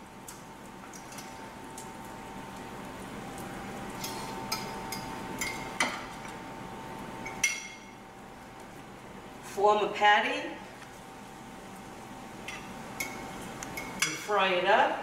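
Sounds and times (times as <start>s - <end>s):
faint steady background hum: 0.0s - 15.0s.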